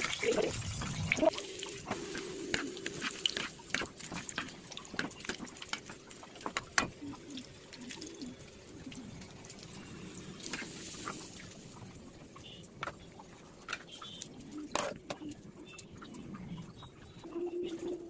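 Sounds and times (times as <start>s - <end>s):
wet clicks and liquid drips: 2.6s - 17.3s.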